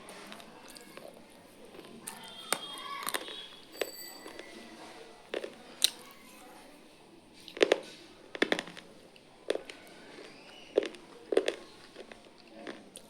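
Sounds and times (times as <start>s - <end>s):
crunching noodles: 0.0s - 13.0s.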